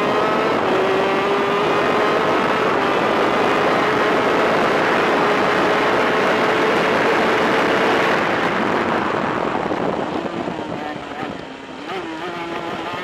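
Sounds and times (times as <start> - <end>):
two-stroke kart engine high revs: 0.0 - 8.6, 10.9 - 13.0.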